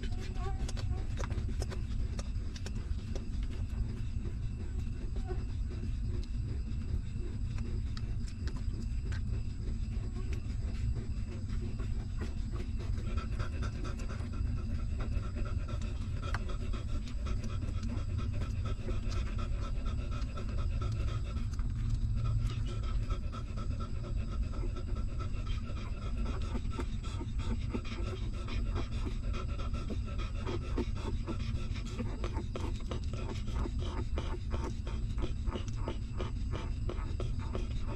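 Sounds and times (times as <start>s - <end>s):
dog panting: 0.0s - 37.9s
puppies suckling clicks: 0.0s - 37.9s
steady low rumble: 0.0s - 37.9s.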